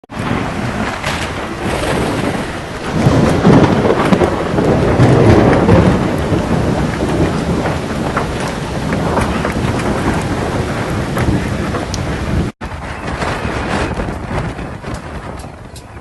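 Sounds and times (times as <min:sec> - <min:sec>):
heavy rain: 0:00.1 - 0:16.0
low rumble of thunder: 0:00.1 - 0:16.0.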